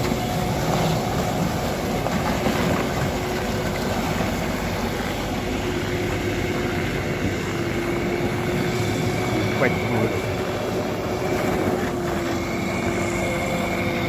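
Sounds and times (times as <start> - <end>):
heavy truck driving on snow: 0.0 - 14.0.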